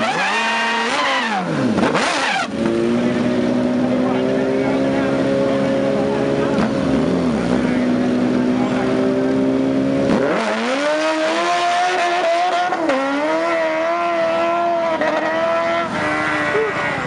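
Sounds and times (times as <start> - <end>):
motorcycle accelerating: 0.0 - 17.0
motorcycle engines revving: 0.0 - 17.0.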